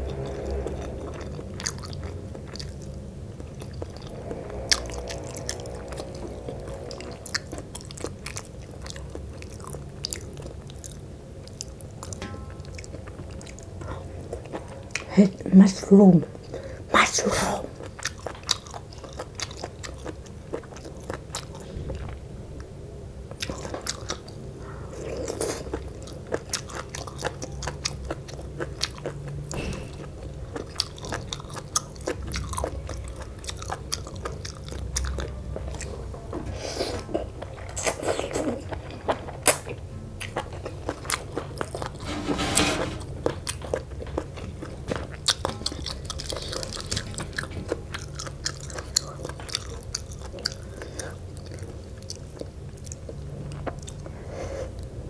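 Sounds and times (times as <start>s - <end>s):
chewing and crunching: 0.0s - 15.2s, 17.7s - 22.2s, 23.3s - 55.0s.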